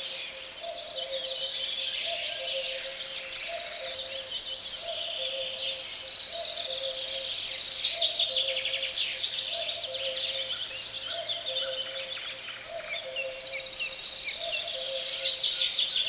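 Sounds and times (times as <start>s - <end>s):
small birds chirping and trilling: 0.0s - 16.0s.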